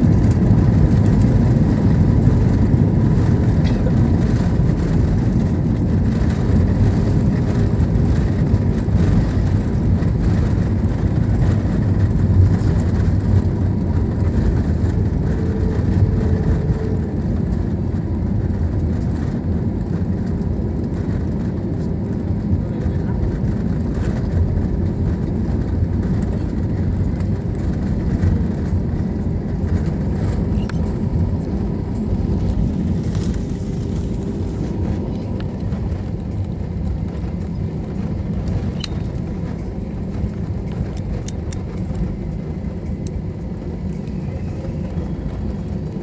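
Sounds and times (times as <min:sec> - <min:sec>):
airliner engines and wheels rumbling: 0:00.0 - 0:46.0.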